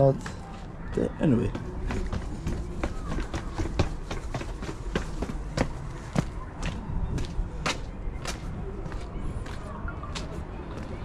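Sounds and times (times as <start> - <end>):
footsteps on stone steps: 1.3 - 11.0.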